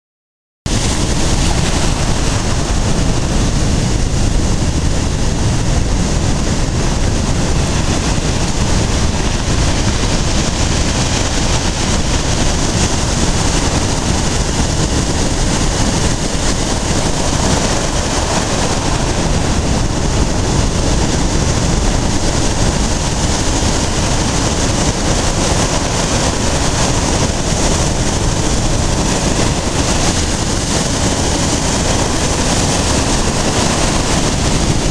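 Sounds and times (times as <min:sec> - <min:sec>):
deep rumble: 0:00.7 - 0:34.9
stormy waves breaking on beach: 0:00.7 - 0:34.9.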